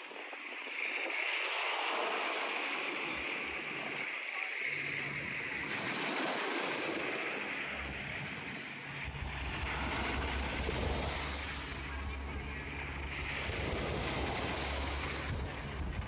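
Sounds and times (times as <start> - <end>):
waves washing onto beach: 0.0 - 16.0
low engine drone: 3.1 - 16.0.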